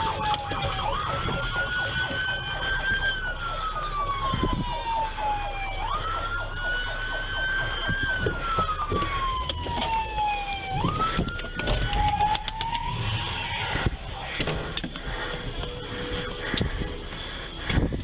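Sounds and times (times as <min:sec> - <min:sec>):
police siren wailing: 0:00.0 - 0:18.0
vehicle noise: 0:00.0 - 0:18.0.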